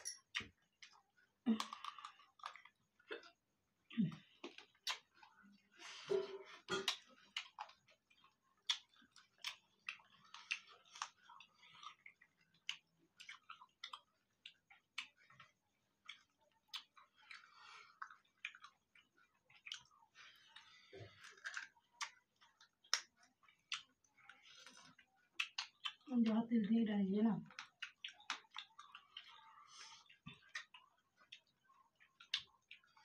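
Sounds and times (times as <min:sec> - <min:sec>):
people chewing: 0:00.0 - 0:26.4, 0:27.4 - 0:33.0.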